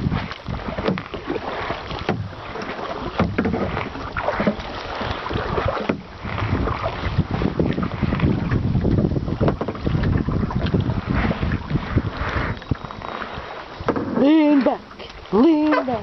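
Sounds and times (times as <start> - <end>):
paddle splashes: 0.0 - 16.0
water sloshing against hull: 0.0 - 16.0
wind rumbling on microphone: 0.0 - 16.0.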